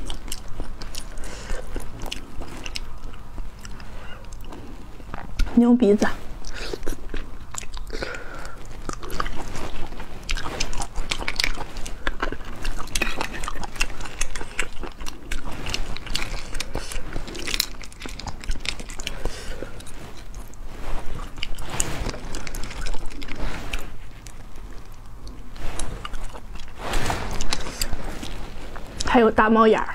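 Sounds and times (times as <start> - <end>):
wet sucking and chewing: 0.0 - 29.2.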